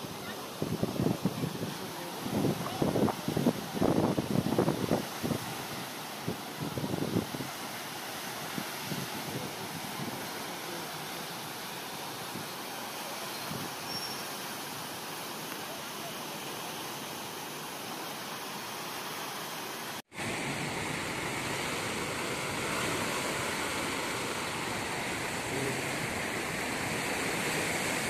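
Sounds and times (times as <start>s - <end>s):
floodwater rushing over a weir: 0.0s - 28.0s.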